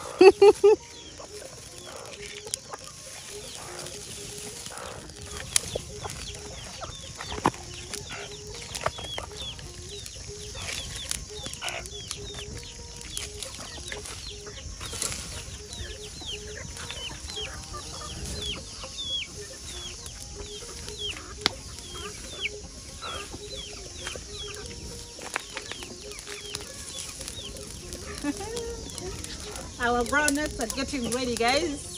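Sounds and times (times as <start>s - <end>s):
chickens clucking: 0.0s - 31.9s
dry grass fire crackling: 0.0s - 31.9s
high chirps: 0.0s - 31.9s.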